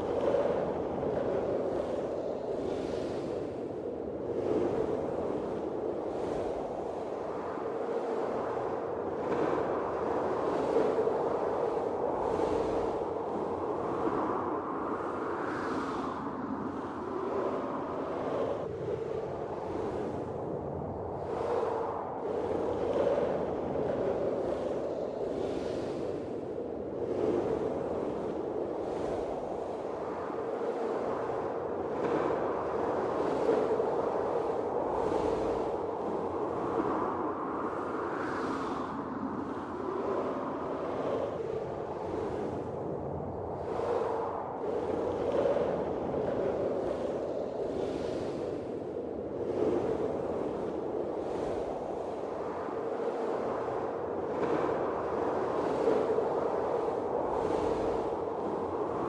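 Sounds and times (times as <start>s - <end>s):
blizzard wind blowing: 0.0s - 59.0s.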